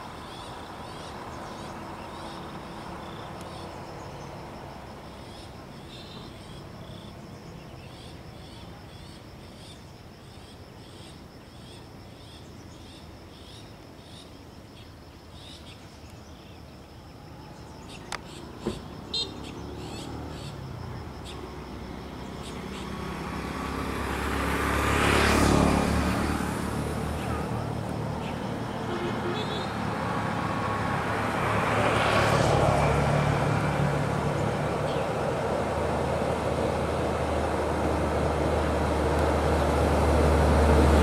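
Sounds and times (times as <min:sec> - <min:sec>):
insects chirping: 0:00.0 - 0:41.0.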